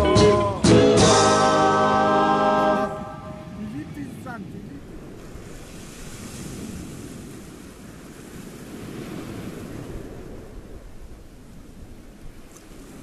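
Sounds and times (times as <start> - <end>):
sea surf washing on shore: 0.7 - 13.0
wind buffeting microphone: 1.9 - 13.0.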